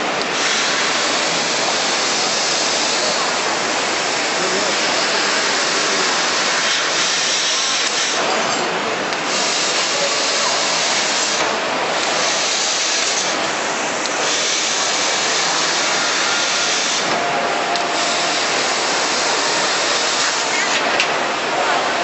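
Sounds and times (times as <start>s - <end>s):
gas rushing: 0.0s - 22.0s
laser cutter hissing: 0.2s - 22.0s.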